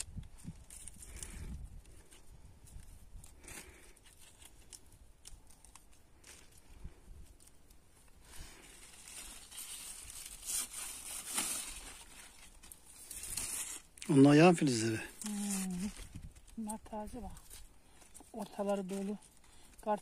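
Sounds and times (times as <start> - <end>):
plant leaves rustling and tearing: 0.0 - 20.0.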